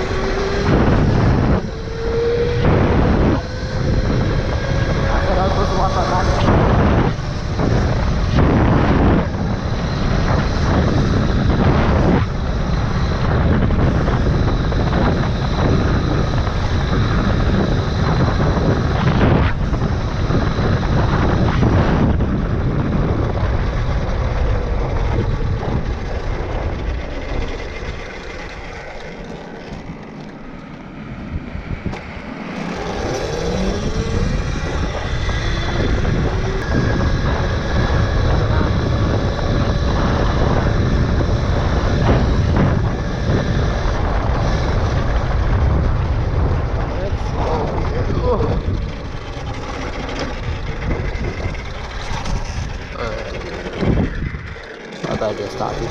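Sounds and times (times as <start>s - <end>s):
electric motor whine: 0.0s - 55.9s
tyre and drivetrain noise: 0.0s - 55.9s
wind buffeting microphone: 0.0s - 55.9s.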